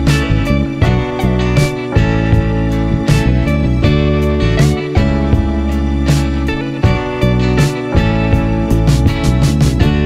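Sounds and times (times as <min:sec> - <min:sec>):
music with steady beat: 0:00.0 - 0:10.0
plucked guitar strings: 0:00.0 - 0:10.0.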